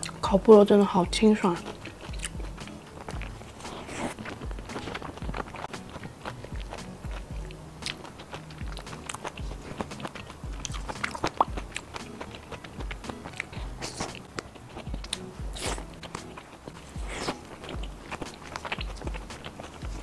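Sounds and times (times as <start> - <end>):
chewing with wet mouth clicks: 0.0 - 0.3, 1.1 - 20.0
crunchy bite: 3.0 - 20.0.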